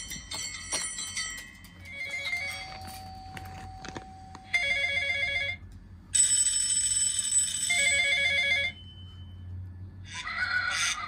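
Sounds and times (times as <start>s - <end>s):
telephone ringing from phone speaker: 0.0s - 9.5s.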